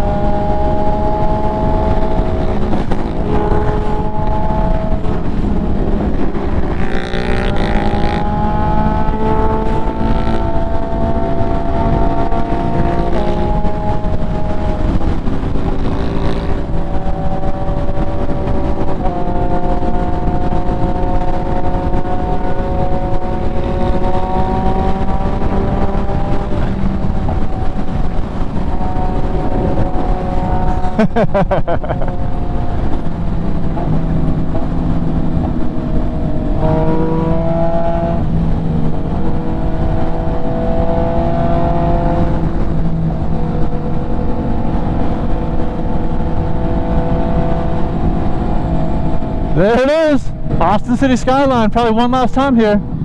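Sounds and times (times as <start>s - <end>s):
motorcycle engine cruising: 0.0s - 53.0s
wind rush: 0.0s - 53.0s.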